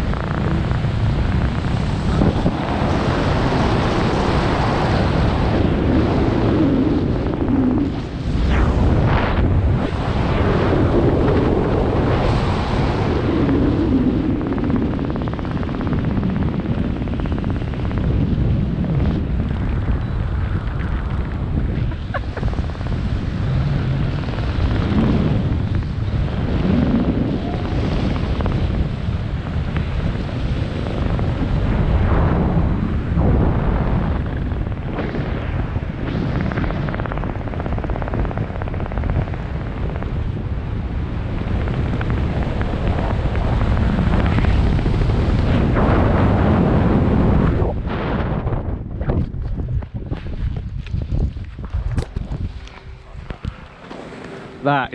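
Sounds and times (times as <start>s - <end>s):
wind rushing on microphone: 0.0s - 54.9s.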